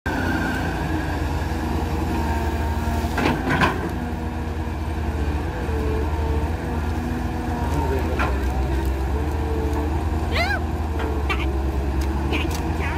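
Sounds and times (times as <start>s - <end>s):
excavator engine and hydraulics: 0.1s - 12.9s.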